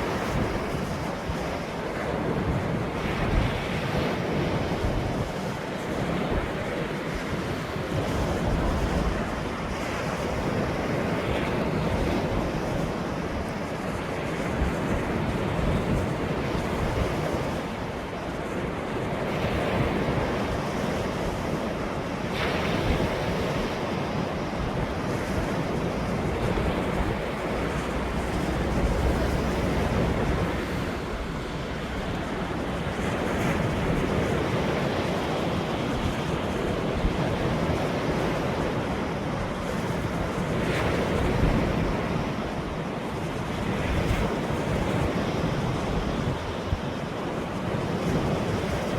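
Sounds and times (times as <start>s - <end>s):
ocean waves breaking: 0.0s - 48.9s
wind rumbling on microphone: 0.0s - 48.9s.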